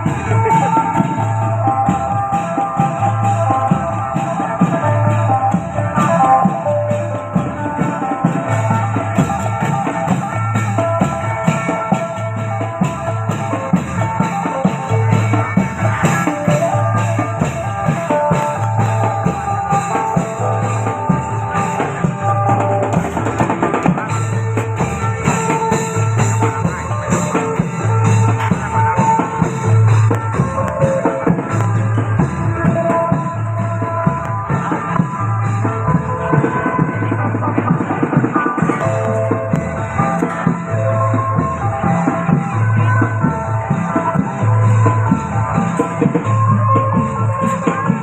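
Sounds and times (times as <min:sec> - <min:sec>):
steady drum beat: 0:00.0 - 0:48.0.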